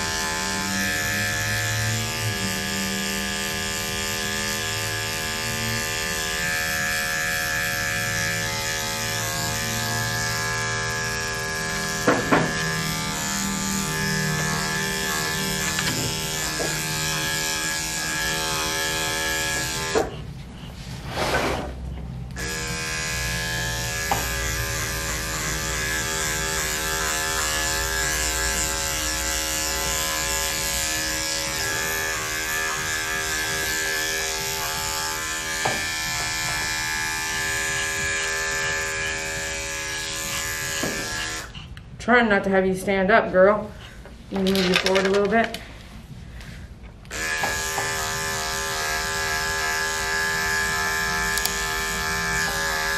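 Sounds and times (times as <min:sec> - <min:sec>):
electric clippers humming: 0:00.0 - 0:20.5, 0:22.0 - 0:41.6, 0:47.0 - 0:52.9.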